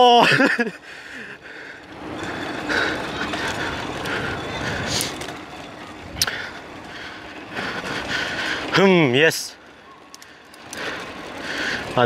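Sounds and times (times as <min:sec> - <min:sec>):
bike rattling over paving stones: 0:00.0 - 0:12.0.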